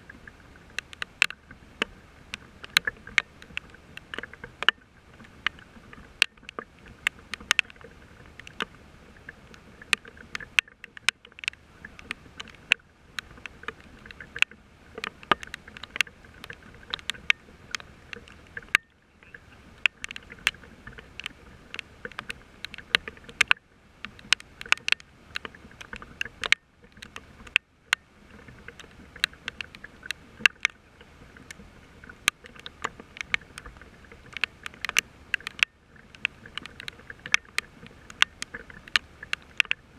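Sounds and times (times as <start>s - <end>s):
rain falling: 0.0s - 39.9s
raindrops ticking near microphone: 0.0s - 39.9s.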